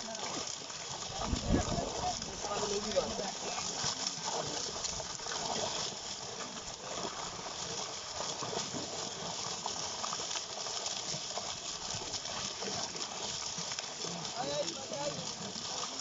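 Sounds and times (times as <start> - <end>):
water splashing and churning: 0.0 - 16.0.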